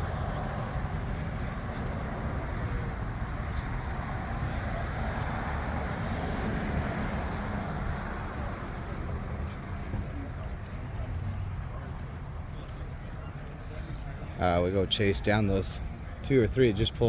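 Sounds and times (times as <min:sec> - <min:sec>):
low rumble of motor vehicles: 0:00.0 - 0:17.0.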